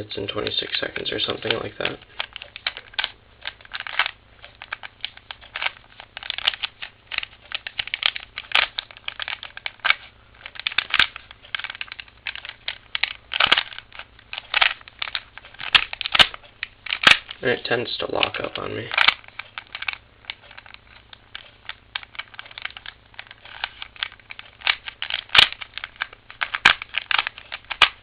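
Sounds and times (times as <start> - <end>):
puzzle cube plastic clicking: 0.4 - 17.4, 18.0 - 28.0.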